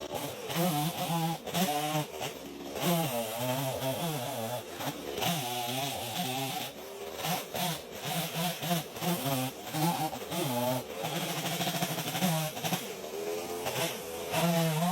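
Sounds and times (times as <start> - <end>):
chainsaw cutting wood: 0.0 - 14.9.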